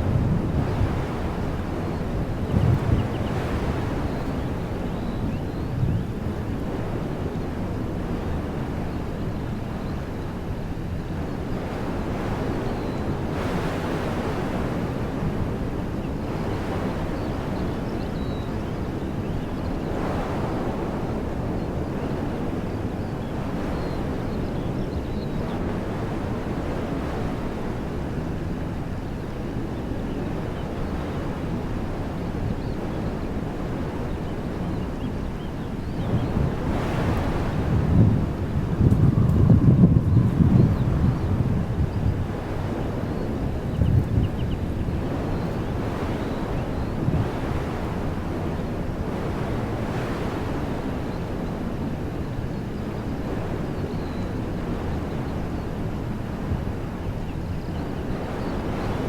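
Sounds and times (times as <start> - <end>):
wind through trees: 0.0 - 59.0.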